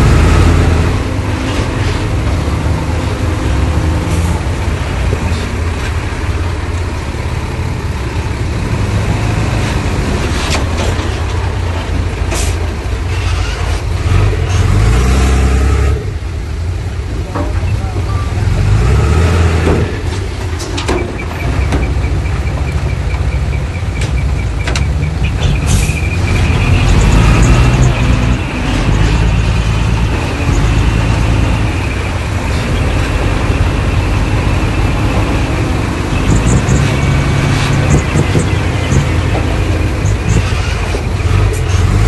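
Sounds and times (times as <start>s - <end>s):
diesel machinery engine rumble: 0.0s - 42.0s.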